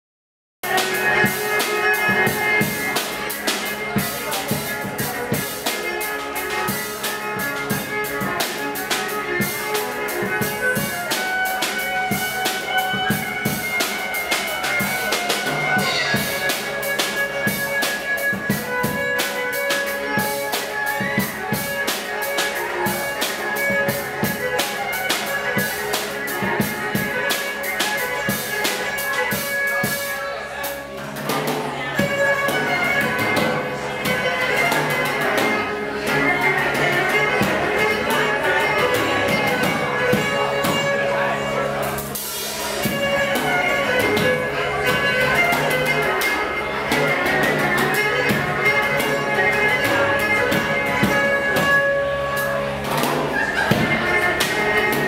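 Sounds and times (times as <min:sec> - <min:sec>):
violin playing held notes: 0:00.6 - 0:55.0
steady drum beat: 0:00.7 - 0:30.2, 0:31.9 - 0:55.0.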